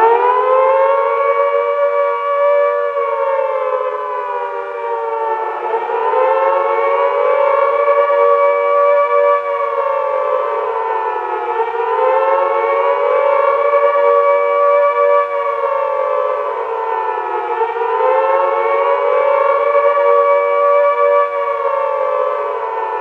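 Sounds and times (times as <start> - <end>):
warning siren wailing: 0.0 - 23.0.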